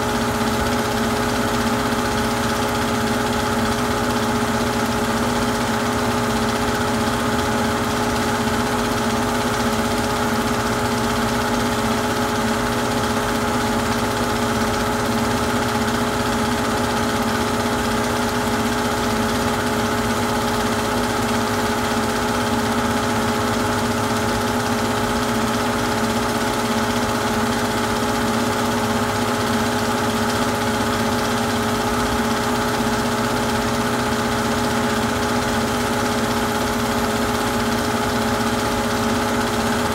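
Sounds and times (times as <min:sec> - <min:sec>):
film projector motor whirring: 0:00.0 - 0:39.9.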